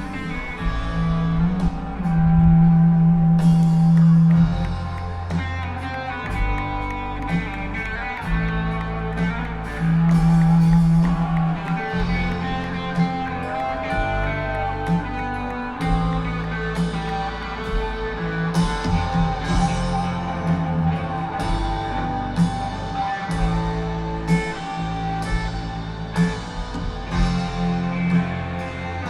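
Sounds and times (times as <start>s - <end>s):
drums: 0.0s - 29.0s
electric guitar long notes: 0.0s - 29.0s
heavy bass line: 0.0s - 29.0s.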